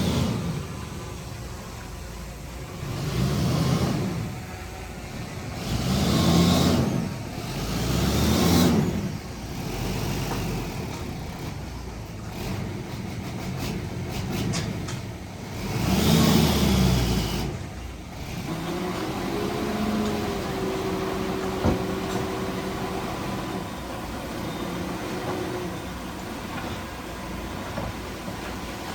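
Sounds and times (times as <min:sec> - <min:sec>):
diesel engine revving: 0:00.0 - 0:28.9.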